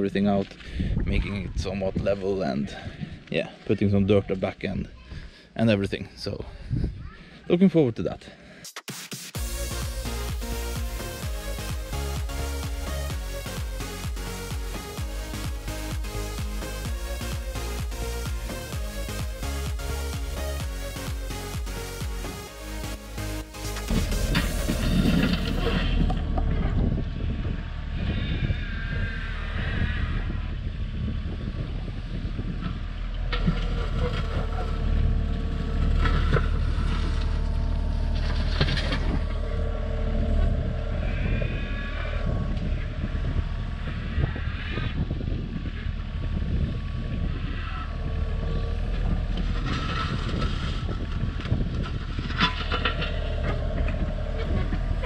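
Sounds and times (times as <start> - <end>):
excavator diesel engine running: 9.4 - 30.8, 31.5 - 55.0
hydraulic whine: 9.4 - 55.0.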